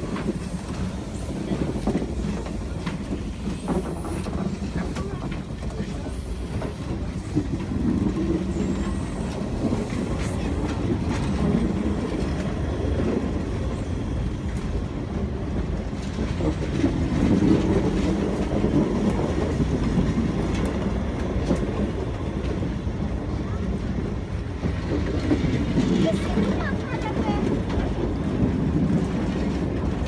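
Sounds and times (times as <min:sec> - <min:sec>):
steel wheels rumbling on track: 0:00.0 - 0:30.0
wheels clicking over rail joints: 0:00.0 - 0:30.0.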